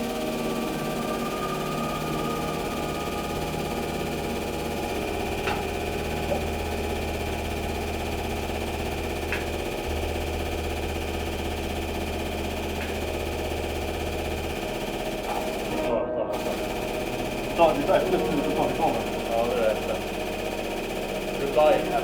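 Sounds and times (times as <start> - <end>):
hydraulic pump motor humming: 0.0 - 22.0.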